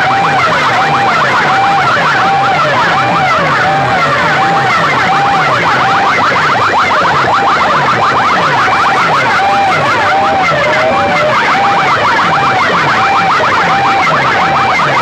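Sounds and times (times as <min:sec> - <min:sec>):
electronic siren wailing: 0:00.0 - 0:15.0
fast low pulse: 0:00.0 - 0:15.0.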